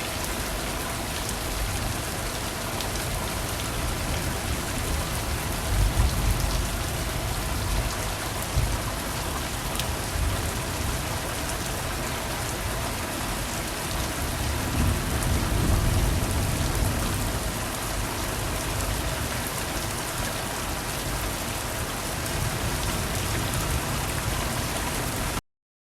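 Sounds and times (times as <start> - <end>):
rain pattering: 0.0 - 25.4.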